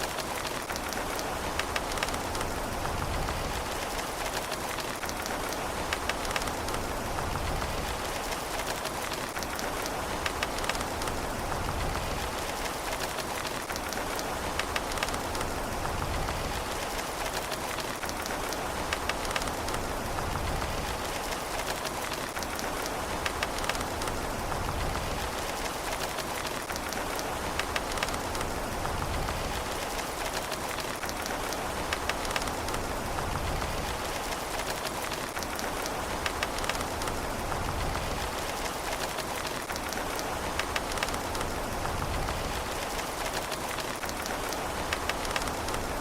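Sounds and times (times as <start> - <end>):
rain pattering on a surface: 0.0 - 46.0.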